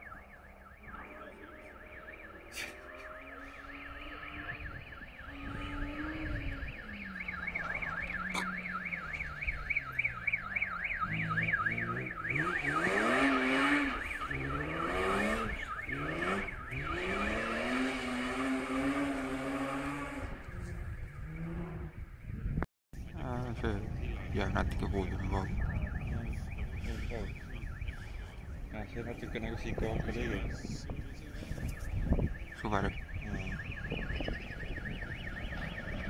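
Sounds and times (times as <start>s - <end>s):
warbling alarm tone: 0.0s - 22.2s, 23.5s - 36.0s
rally car engine at full throttle: 0.0s - 36.0s.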